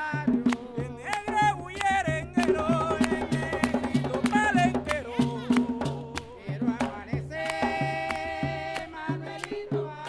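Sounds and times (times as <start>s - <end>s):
drums beating: 0.0s - 10.0s
person singing: 0.0s - 10.0s
hand drum slaps: 0.4s - 9.8s.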